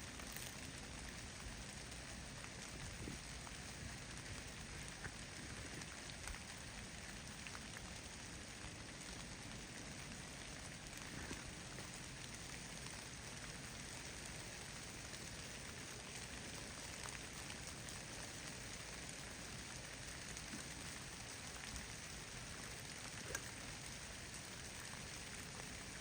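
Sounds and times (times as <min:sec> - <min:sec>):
snow faint patter: 0:00.0 - 0:26.0.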